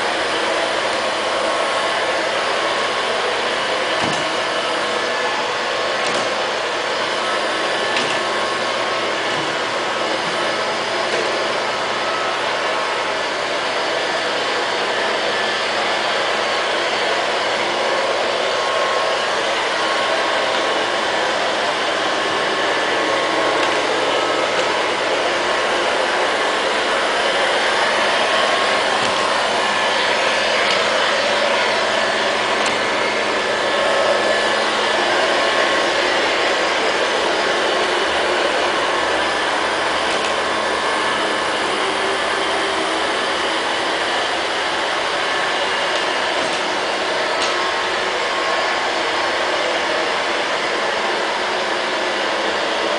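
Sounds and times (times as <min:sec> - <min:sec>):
robot vacuum whirring: 0:00.0 - 0:52.9.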